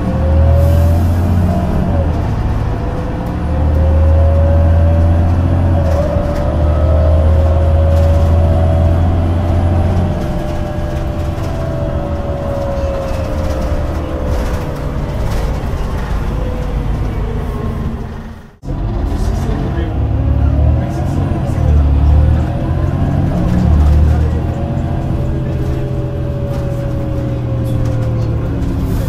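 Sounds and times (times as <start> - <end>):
bus engine drone: 0.0 - 29.0.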